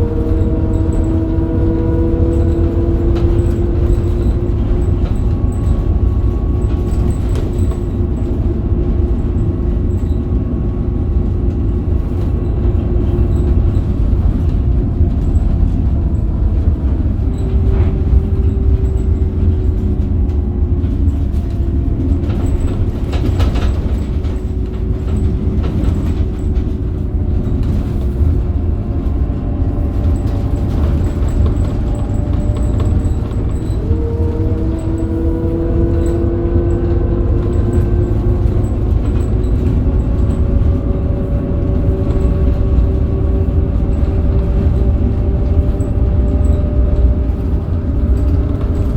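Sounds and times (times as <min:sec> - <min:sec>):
bus road rumble: 0:00.0 - 0:48.9
diesel engine droning: 0:00.0 - 0:48.9.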